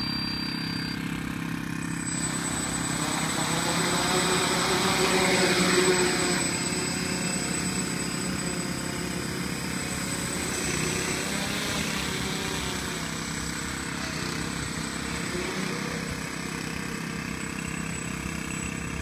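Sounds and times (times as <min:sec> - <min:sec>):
drone propellers whirring: 0:00.0 - 0:19.0.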